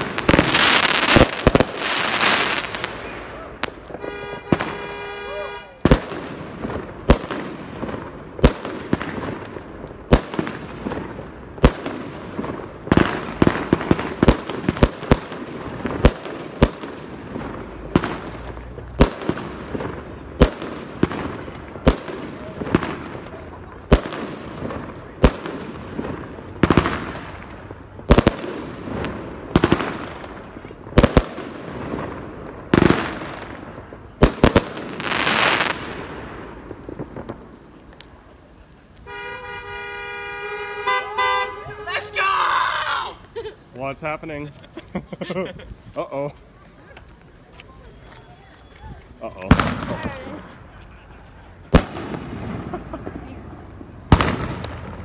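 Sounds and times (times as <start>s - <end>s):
firework crackling: 0.0s - 55.0s.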